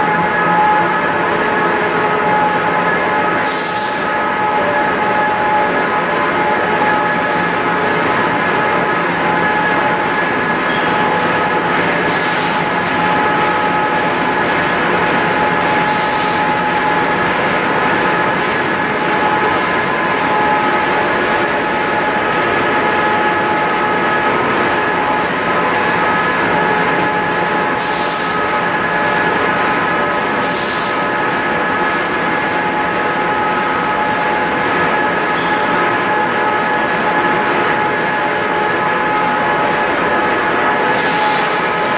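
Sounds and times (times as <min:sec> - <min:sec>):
factory machinery din: 0:00.0 - 0:41.9.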